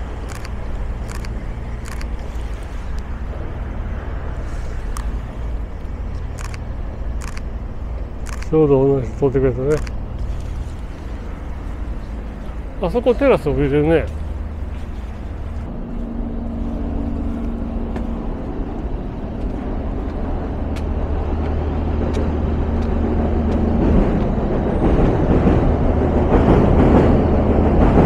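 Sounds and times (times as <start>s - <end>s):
city traffic rumble: 0.0s - 28.0s
faint engine hum: 0.0s - 28.0s.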